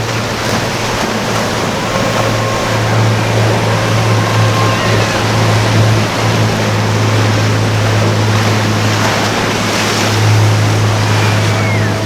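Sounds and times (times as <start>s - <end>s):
motorboat engines droning: 0.0s - 12.0s
waves washing: 0.0s - 12.0s
wind noise: 0.0s - 12.0s.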